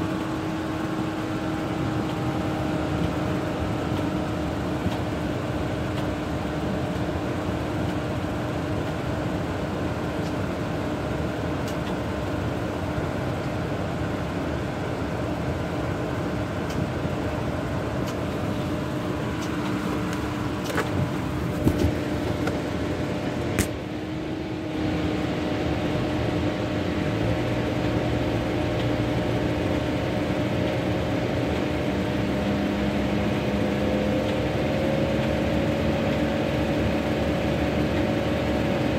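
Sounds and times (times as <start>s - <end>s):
car engine and fan hum: 0.0s - 38.9s.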